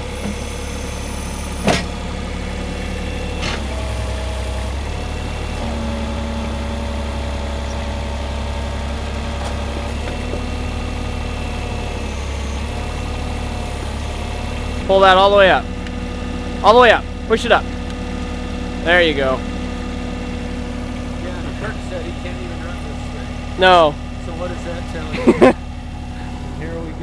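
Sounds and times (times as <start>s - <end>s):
diesel engine running: 0.0s - 27.0s
hydraulics working: 0.0s - 27.0s.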